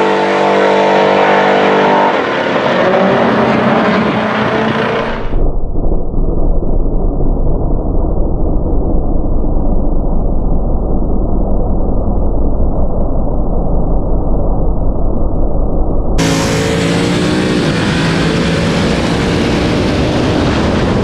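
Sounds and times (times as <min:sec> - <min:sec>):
muffled drag race vehicle rumble: 0:00.0 - 0:21.0.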